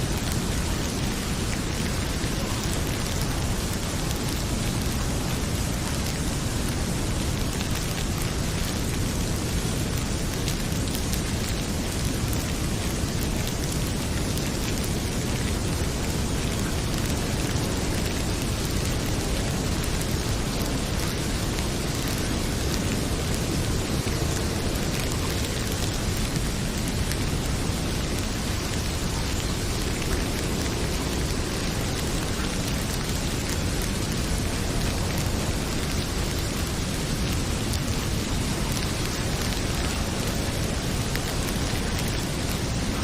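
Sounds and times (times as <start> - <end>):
heavy rain pouring: 0.0 - 43.0
wood fire crackling: 0.0 - 43.0.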